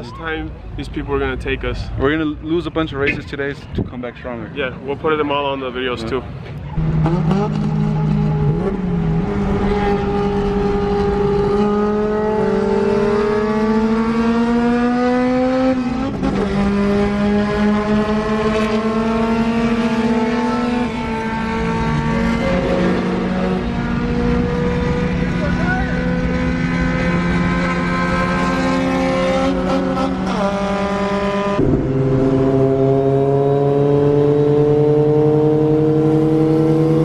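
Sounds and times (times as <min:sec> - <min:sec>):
road noise: 0:00.0 - 0:37.0
car engine accelerating: 0:06.6 - 0:37.0.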